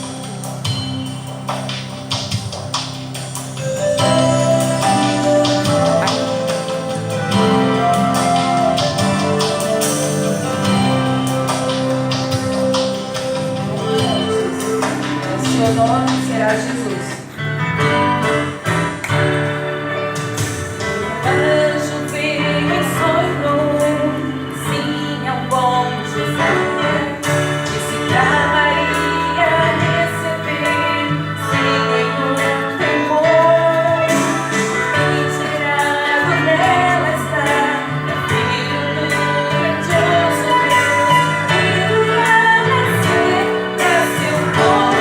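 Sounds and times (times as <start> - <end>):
instrumental accompaniment: 0.0 - 45.0
voices singing: 3.7 - 17.6, 20.8 - 45.0.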